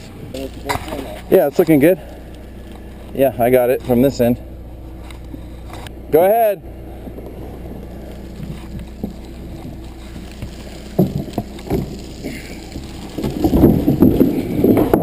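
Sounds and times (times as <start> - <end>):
backhoe engine running: 0.0 - 15.0.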